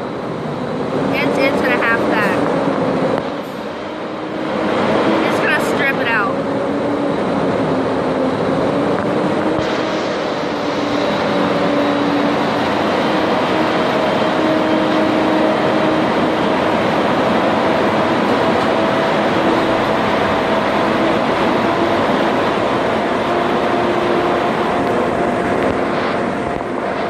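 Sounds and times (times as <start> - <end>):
mechanical drone: 0.0 - 27.0.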